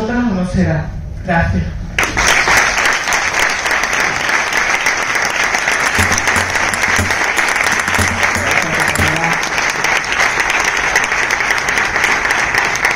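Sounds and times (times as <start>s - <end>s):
audience applauding: 2.0s - 12.9s.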